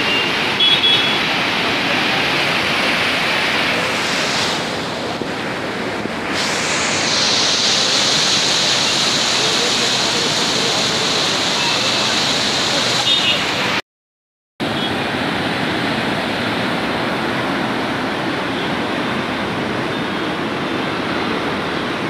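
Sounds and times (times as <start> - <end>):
flood river rushing: 0.0 - 13.8, 14.6 - 22.0.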